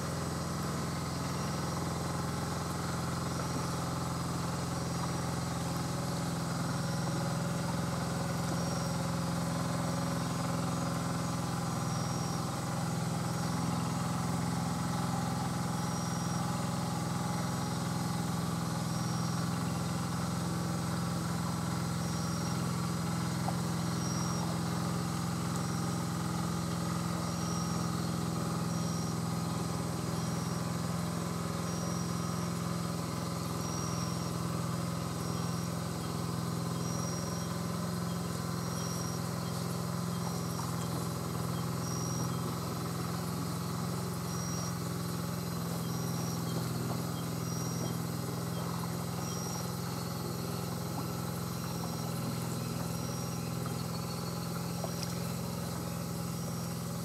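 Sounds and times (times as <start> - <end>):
engine idling: 0.0 - 57.0
faint high chirp: 0.0 - 57.0.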